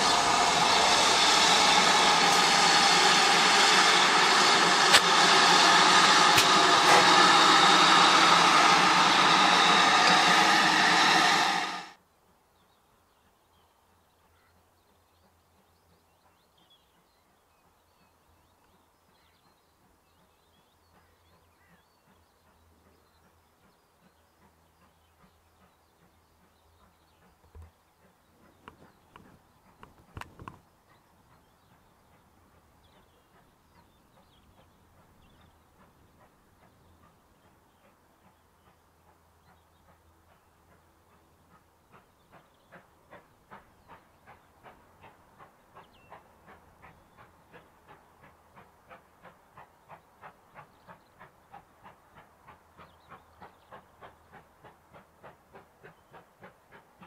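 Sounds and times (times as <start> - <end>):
distant steam locomotive exhaust beats: 0.0 - 12.0, 14.3 - 57.0.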